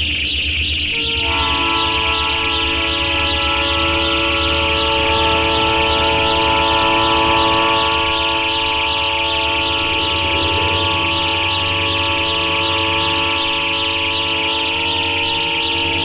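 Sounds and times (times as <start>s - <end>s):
low pulsing: 0.0s - 16.0s
locomotive air horn chord: 0.9s - 16.0s.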